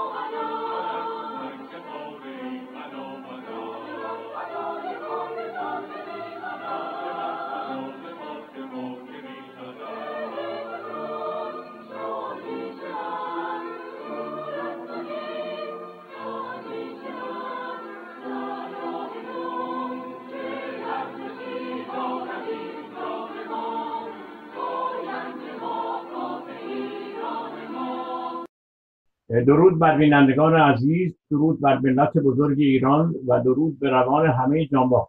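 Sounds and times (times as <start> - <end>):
choir singing with accompaniment: 0.0 - 28.5.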